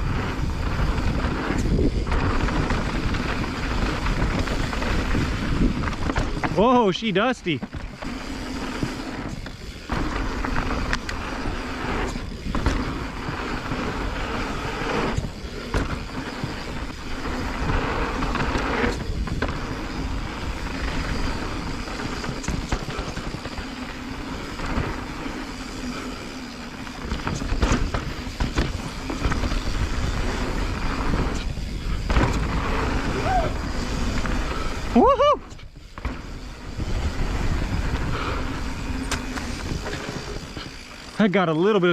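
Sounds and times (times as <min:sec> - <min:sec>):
bike knocks and rattles: 0:00.0 - 0:34.9, 0:35.5 - 0:41.2
bike tyre rush on dirt: 0:00.0 - 0:41.9.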